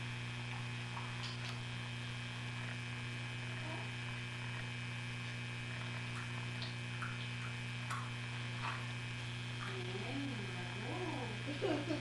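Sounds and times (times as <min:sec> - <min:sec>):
electrical hum with buzz: 0:00.0 - 0:12.0.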